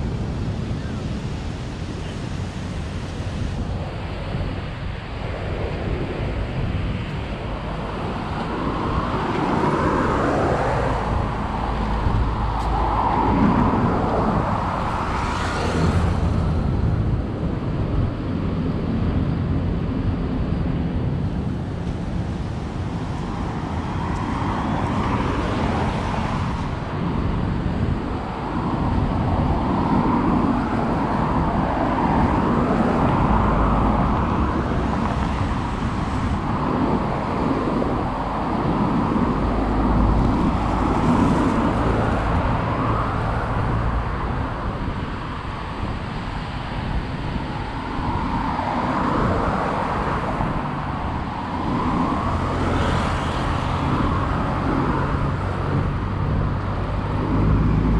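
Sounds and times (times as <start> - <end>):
cars driving past: 0.0 - 57.9.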